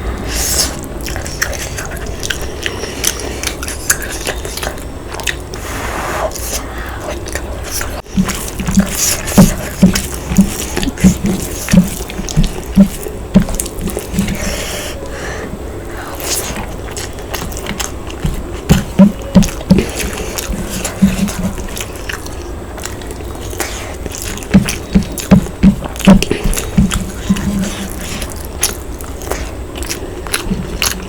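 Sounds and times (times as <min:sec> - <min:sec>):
chewing: 0:00.1 - 0:31.0.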